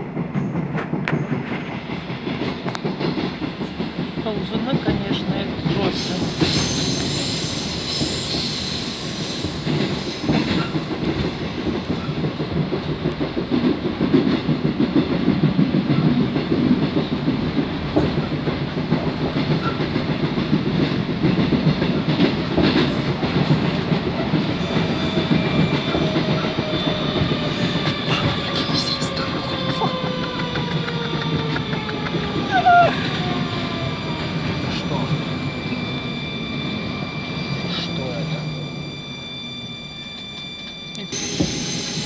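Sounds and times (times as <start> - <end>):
rhythmic clickety-clack knocking: 0.0 - 42.0
train rumbling on rails: 0.0 - 42.0.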